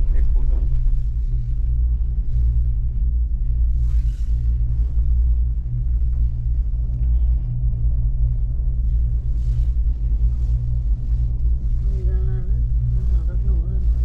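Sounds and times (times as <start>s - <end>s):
cable car cabin rumble: 0.0s - 14.0s.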